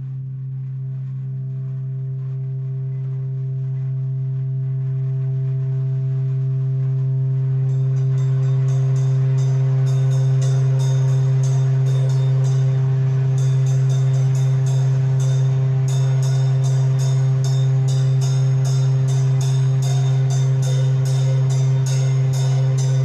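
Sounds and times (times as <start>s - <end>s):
low electronic drone: 0.0s - 23.0s
crisp hi-hat ticking: 0.5s - 23.0s.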